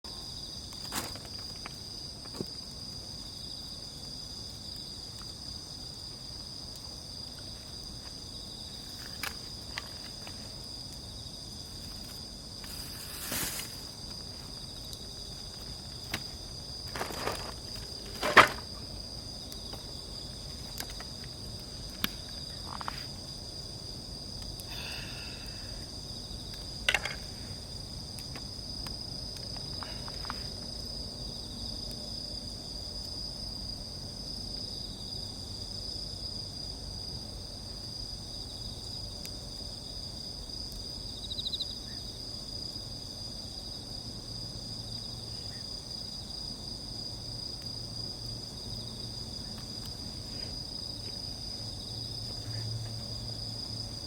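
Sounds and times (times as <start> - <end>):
insects chirring: 0.1 - 54.0.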